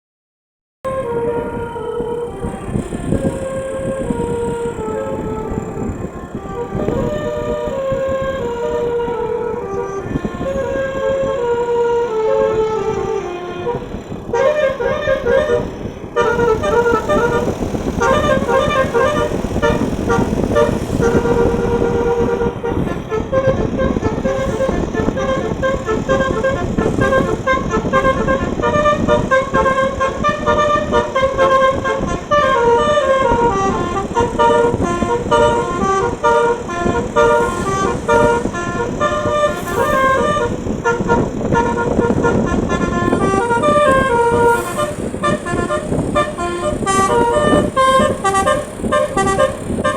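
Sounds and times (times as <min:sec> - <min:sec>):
engine and road noise: 0:00.8 - 0:49.9
multi-tone air horn playing tunes: 0:00.9 - 0:49.9.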